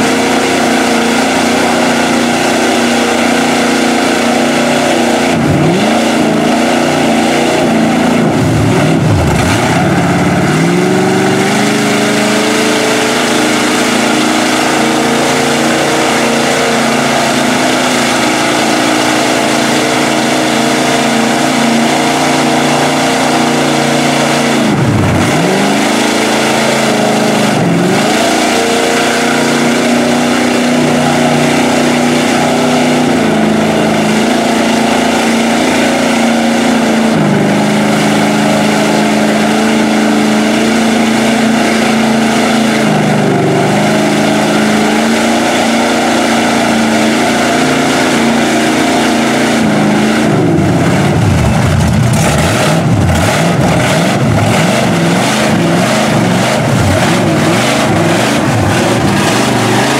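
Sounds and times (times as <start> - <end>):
tires churning mud: 0.0 - 59.9
truck engine at high revs: 0.0 - 59.9.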